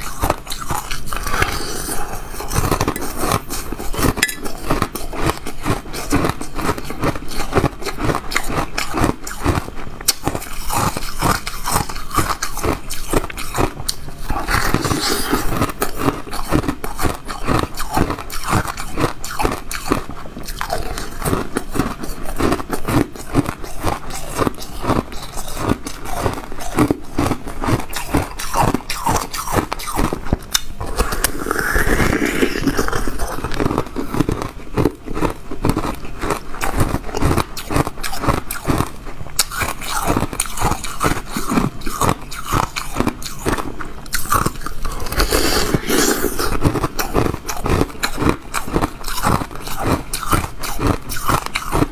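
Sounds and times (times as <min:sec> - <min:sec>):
frozen ice being chewed: 0:00.0 - 0:51.9.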